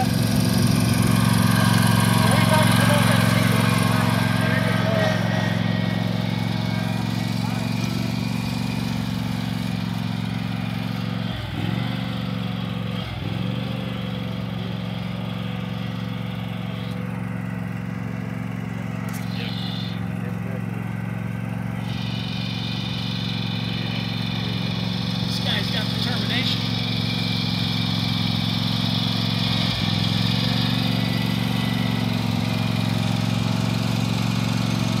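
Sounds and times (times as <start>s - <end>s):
lawn tractor engine running: 0.0s - 35.0s.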